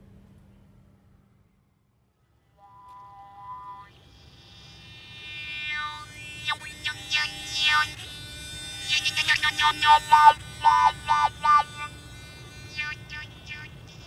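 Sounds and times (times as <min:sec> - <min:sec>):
buzzy bowed one-string instrument: 0:02.6 - 0:14.0.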